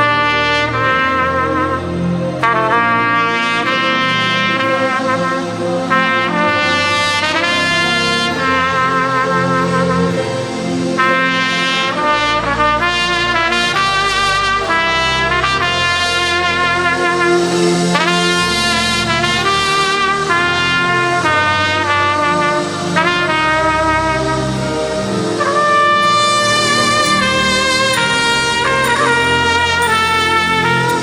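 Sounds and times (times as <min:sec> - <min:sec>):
band low sustained chords: 0:00.0 - 0:31.0
trumpet melody with vibrato: 0:00.0 - 0:31.0.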